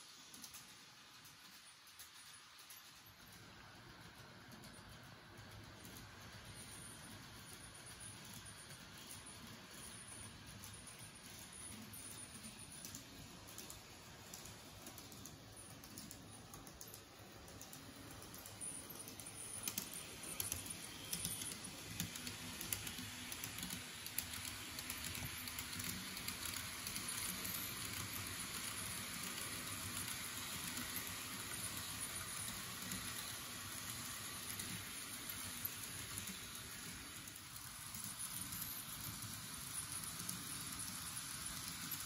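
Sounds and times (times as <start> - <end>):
model train wheels clicking: 0.0 - 42.0.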